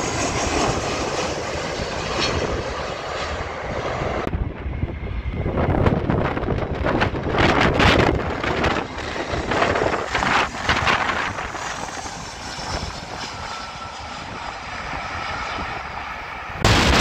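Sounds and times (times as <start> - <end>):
faint high engine whine: 0.0 - 17.0
jet engines passing overhead: 0.0 - 17.0
wind buffeting microphone: 0.0 - 17.0.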